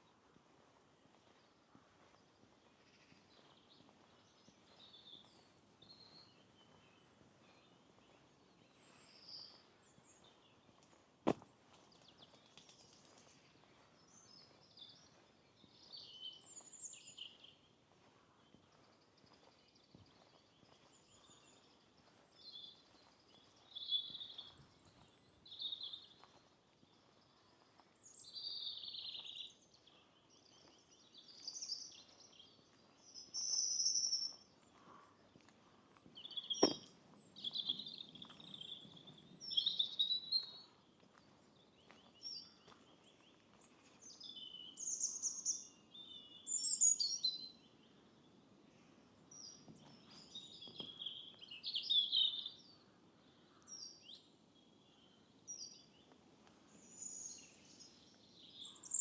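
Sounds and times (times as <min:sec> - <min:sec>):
small songbirds singing: 0:11.6 - 0:59.0.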